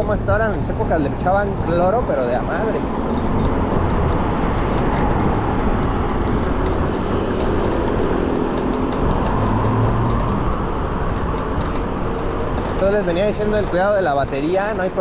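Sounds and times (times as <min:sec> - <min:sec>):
wind rushing: 0:00.0 - 0:14.4
city traffic noise: 0:00.0 - 0:15.0.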